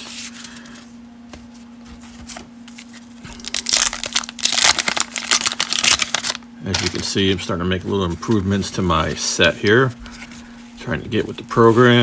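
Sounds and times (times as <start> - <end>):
cards being handled: 0.0 - 12.0
wax paper wrapper crinkling: 1.7 - 12.0.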